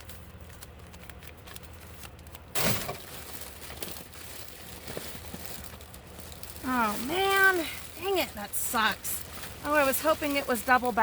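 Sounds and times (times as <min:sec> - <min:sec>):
bag crinkling and rustling: 0:00.0 - 0:11.0.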